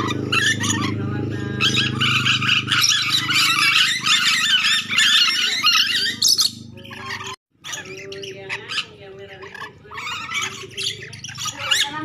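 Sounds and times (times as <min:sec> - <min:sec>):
lorikeets screeching: 0:00.0 - 0:12.0.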